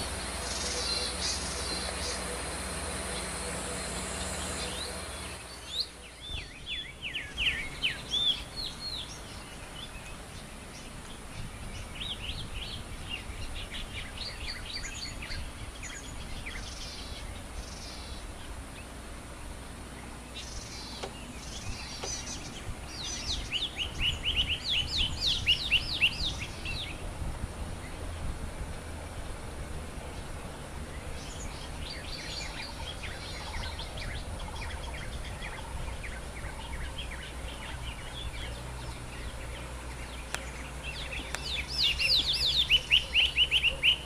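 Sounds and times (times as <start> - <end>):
low background rumble: 0.0 - 44.0
songbirds chirping: 0.0 - 44.0.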